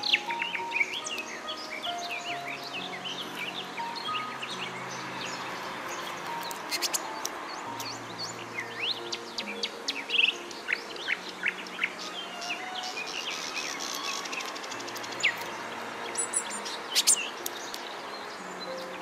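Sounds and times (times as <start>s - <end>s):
soft background music: 0.0s - 19.0s
songbirds chirping: 0.0s - 19.0s.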